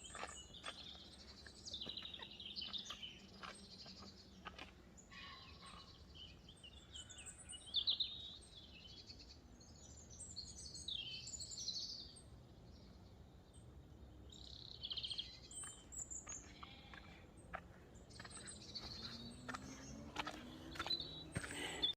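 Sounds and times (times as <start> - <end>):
songbirds singing: 0.0 - 21.9.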